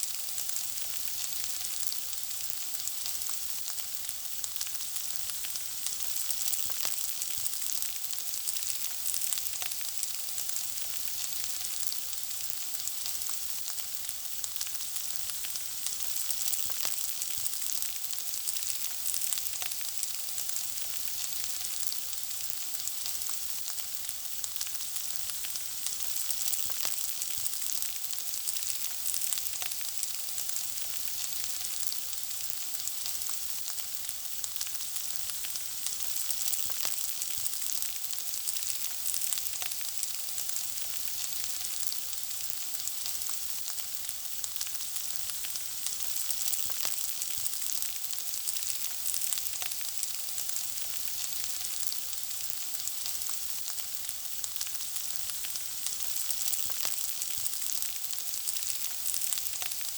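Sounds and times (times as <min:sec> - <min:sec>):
food sizzling in frying: 0:00.0 - 0:59.9.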